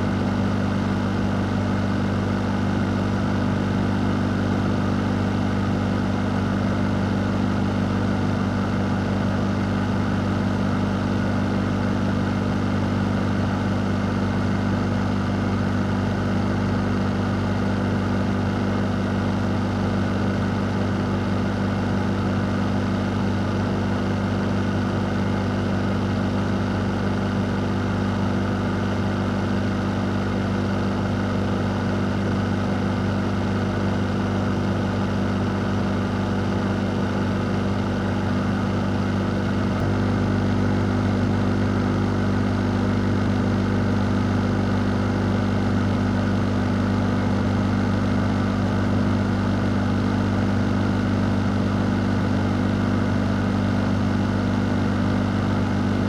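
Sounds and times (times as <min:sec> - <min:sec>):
fan running: 0:04.6 - 0:56.0.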